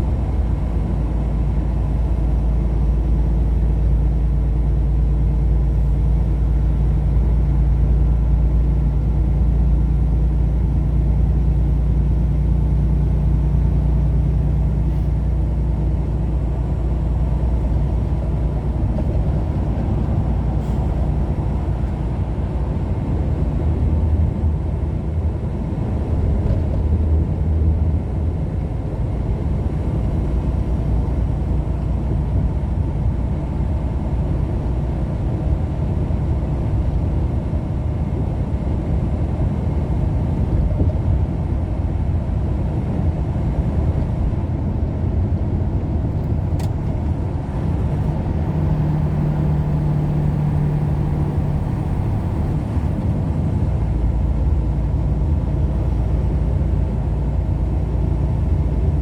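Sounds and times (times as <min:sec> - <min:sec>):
car driving at road speed: 0:00.0 - 0:59.0.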